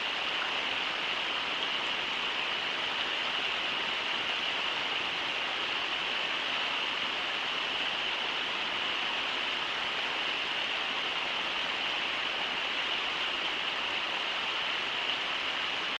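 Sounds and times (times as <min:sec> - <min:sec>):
river water pouring over falls: 0:00.0 - 0:16.0.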